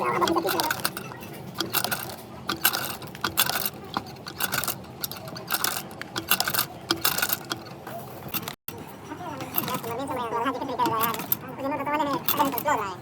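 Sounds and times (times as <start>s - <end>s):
small metal parts clinking: 0.0s - 8.6s, 9.4s - 13.0s.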